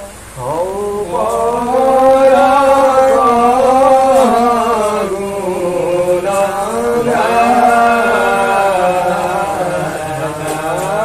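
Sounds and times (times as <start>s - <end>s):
men chanting devotional song: 0.0s - 11.0s.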